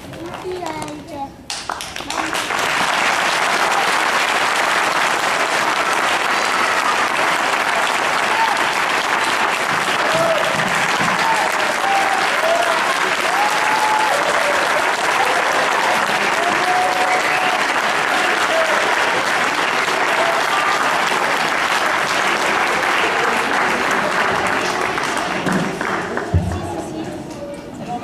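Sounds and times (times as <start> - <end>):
audience applauding: 0.0 - 26.8.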